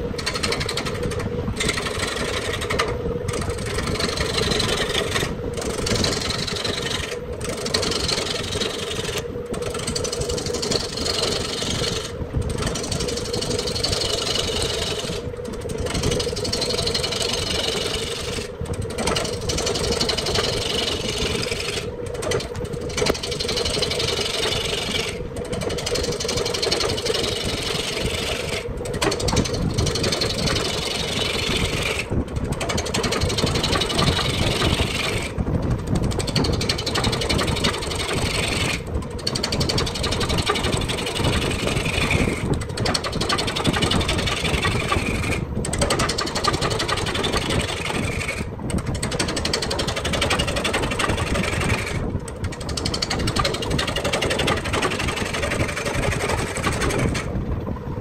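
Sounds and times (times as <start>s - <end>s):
gouge scraping spinning wood: 0.0s - 58.0s
lathe motor hum: 0.0s - 58.0s.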